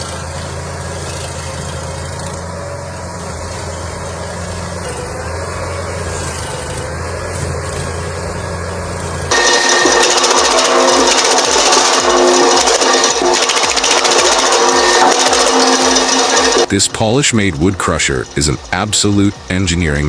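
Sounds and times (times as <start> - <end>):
large engine humming: 0.0 - 20.0.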